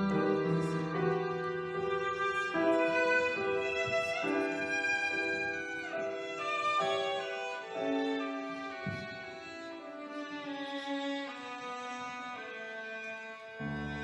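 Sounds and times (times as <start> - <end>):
piano accompaniment: 0.0 - 14.0
violin melody: 0.0 - 14.0.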